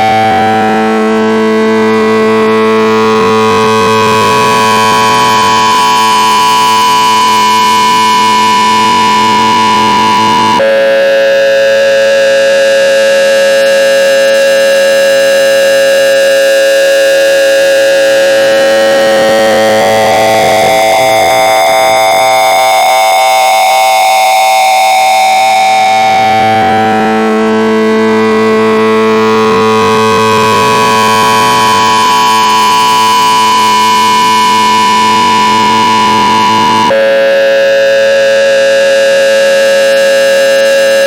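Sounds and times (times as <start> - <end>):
harsh electronic tone: 0.0 - 41.0.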